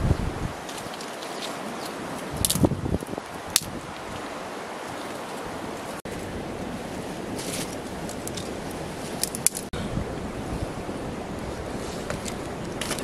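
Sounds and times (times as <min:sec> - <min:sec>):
fire burning with rushing hiss: 0:00.0 - 0:13.0
fire crackling: 0:00.4 - 0:13.0.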